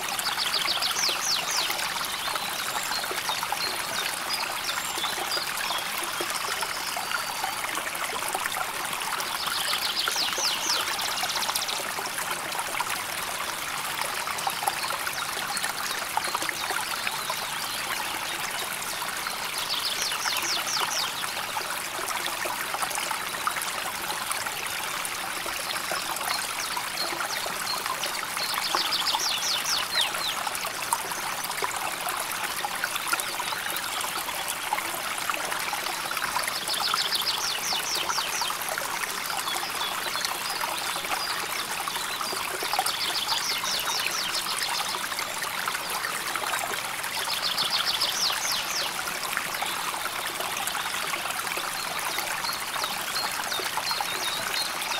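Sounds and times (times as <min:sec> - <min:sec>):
river water flowing over stones: 0:00.0 - 0:54.9.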